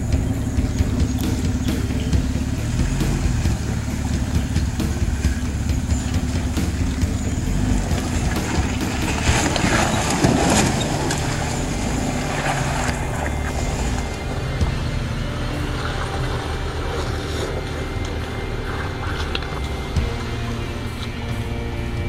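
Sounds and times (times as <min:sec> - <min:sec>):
tyres clicking over rocks: 0:00.0 - 0:21.3
engine running low: 0:00.0 - 0:22.0
water splashing: 0:00.0 - 0:22.0.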